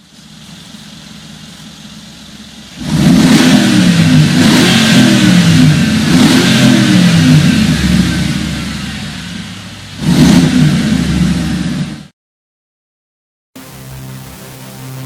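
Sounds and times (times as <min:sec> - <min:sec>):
car engine revving: 0:00.0 - 0:12.1.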